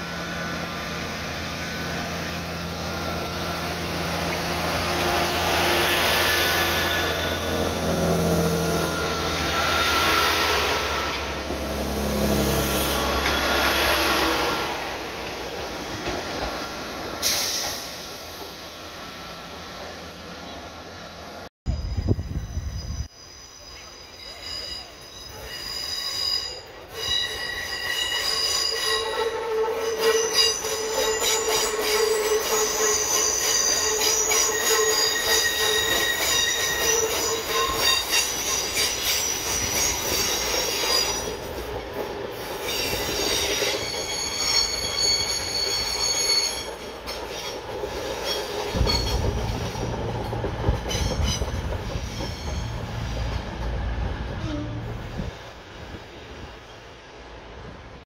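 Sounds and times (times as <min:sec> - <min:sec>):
train wheels squealing on rails: 0:00.0 - 0:14.9, 0:16.0 - 0:20.7, 0:21.7 - 0:55.2
train rolling noise: 0:00.0 - 0:58.0.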